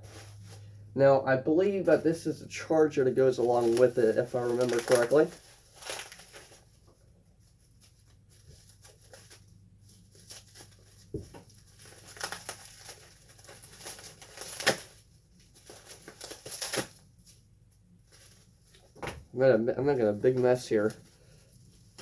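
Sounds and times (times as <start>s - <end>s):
packaging rustling and crinkling: 0.0s - 0.9s, 1.6s - 19.2s, 19.9s - 22.0s.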